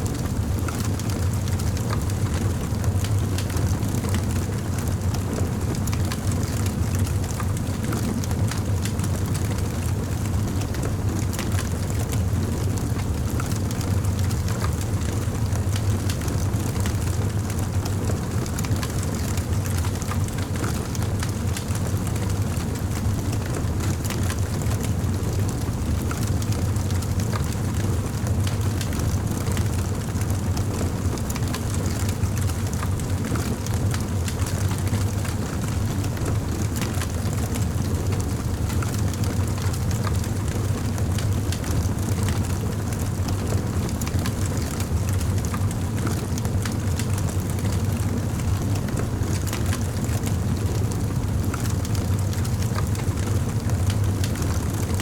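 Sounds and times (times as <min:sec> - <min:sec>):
campfire flames rumbling: 0:00.0 - 0:55.0.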